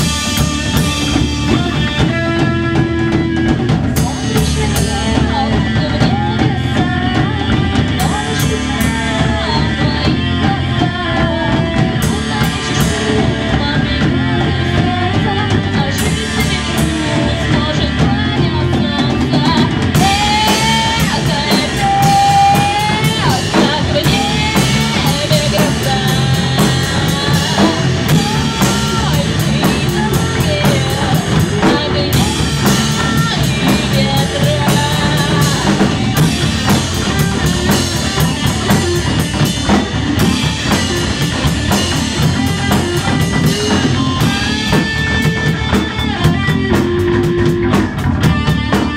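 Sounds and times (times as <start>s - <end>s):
person singing: 0.0s - 48.9s
rock band playing: 0.0s - 48.9s.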